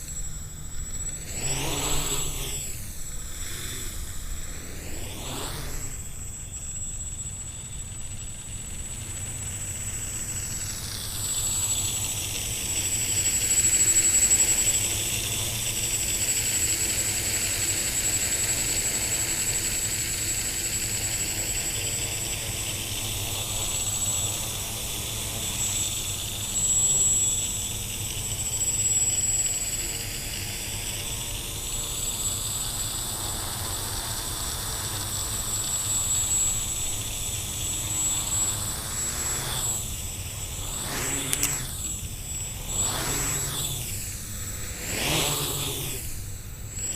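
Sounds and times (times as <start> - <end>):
drone propellers buzzing: 0.0 - 46.9.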